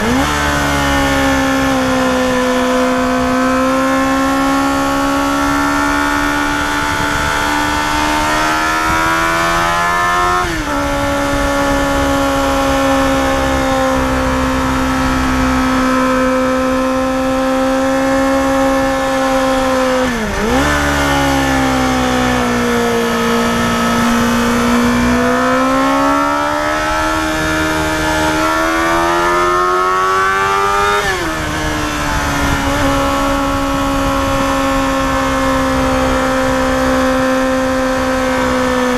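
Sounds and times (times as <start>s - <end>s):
motorcycle engine at high revs: 0.0s - 38.9s
wind noise: 0.0s - 38.9s.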